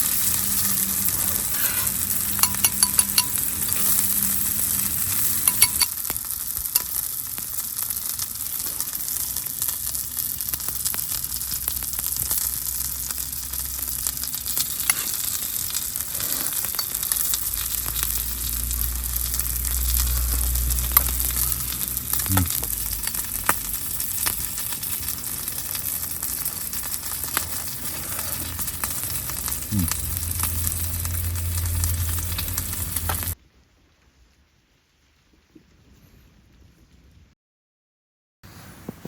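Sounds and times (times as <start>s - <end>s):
food sizzling in a pan: 0.0s - 33.4s
fire crackling and popping: 0.0s - 37.2s.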